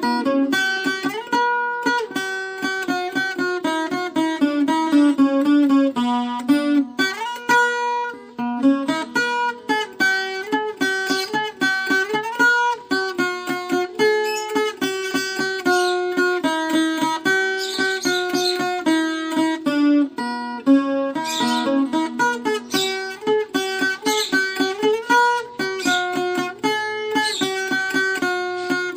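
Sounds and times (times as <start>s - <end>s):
plucked folk guitar melody: 0.0s - 28.9s.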